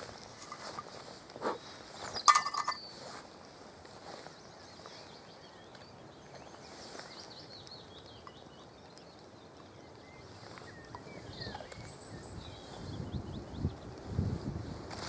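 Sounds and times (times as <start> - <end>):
small birds chirping: 0.0 - 14.8
steady outdoor hiss: 0.0 - 15.0.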